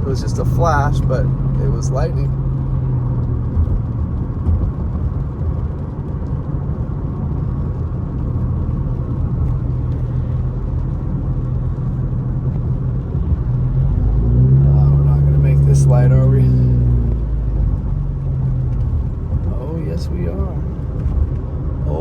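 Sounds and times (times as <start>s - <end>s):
vehicle idling rumble: 0.0s - 22.0s.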